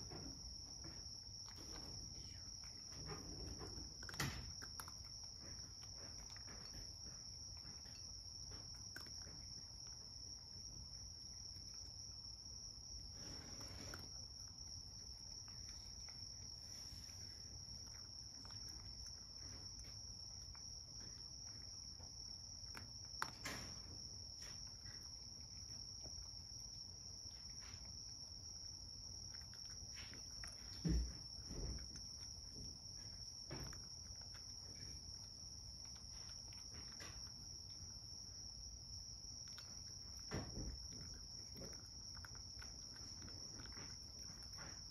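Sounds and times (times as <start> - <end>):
cat licking and chewing: 0.0 - 44.9.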